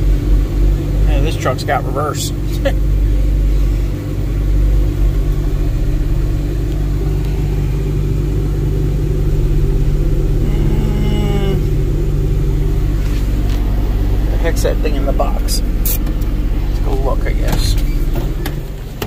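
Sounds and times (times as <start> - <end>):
pickup engine rumble: 0.0 - 19.0
road noise: 0.0 - 19.0.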